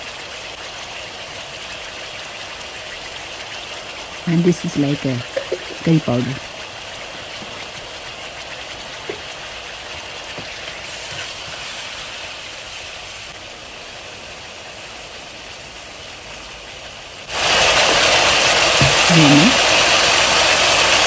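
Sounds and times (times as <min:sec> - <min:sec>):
sauce simmering in a pan: 0:00.0 - 0:21.0
loud hiss: 0:04.0 - 0:21.0.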